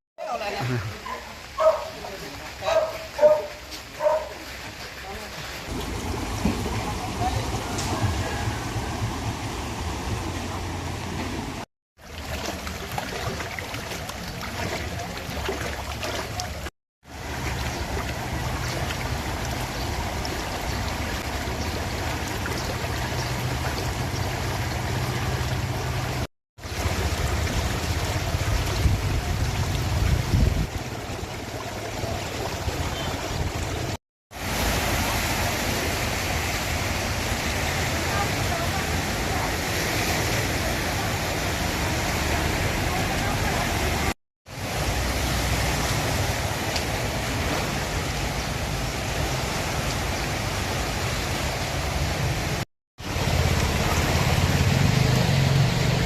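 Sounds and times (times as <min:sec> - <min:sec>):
rushing floodwater: 0:00.2 - 0:56.0.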